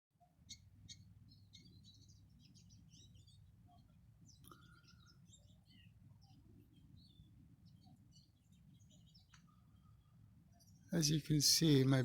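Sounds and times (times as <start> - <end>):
small songbirds chirping: 0.2 - 12.0.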